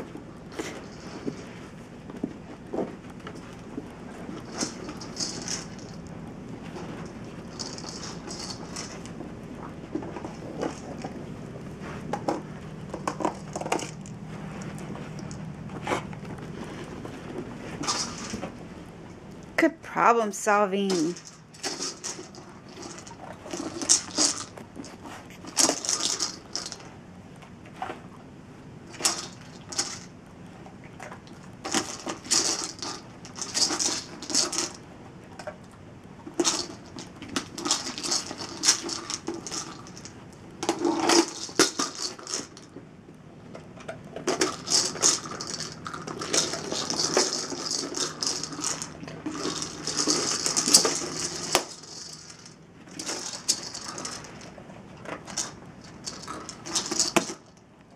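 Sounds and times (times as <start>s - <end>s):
kibble rattling in plastic ball: 2.3s - 18.6s, 20.8s - 27.0s, 28.9s - 30.2s, 31.0s - 42.8s, 43.5s - 57.7s.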